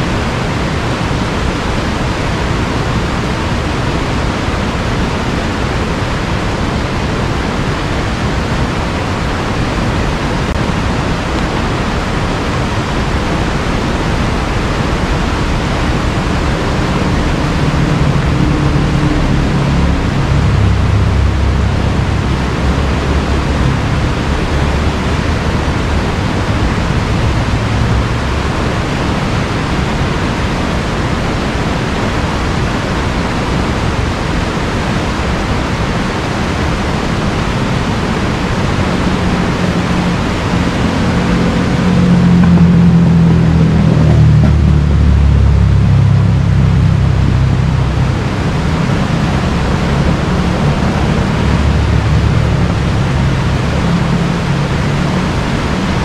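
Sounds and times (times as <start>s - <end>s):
deep low rumble: 0.0s - 56.0s
river water rushing: 0.0s - 56.0s.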